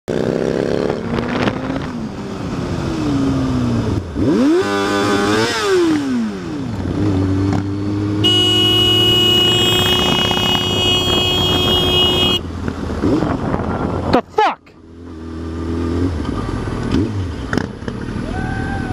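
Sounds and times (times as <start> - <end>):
motorcycle engine revving: 0.1 - 14.1, 14.8 - 18.3.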